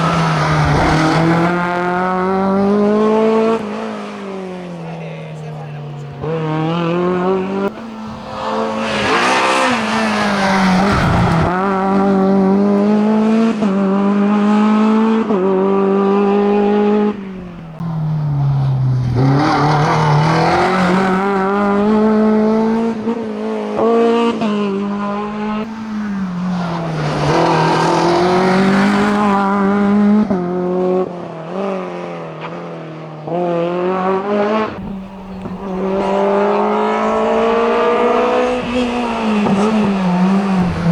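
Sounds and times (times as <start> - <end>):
racing car engine at full throttle: 0.0 - 40.9.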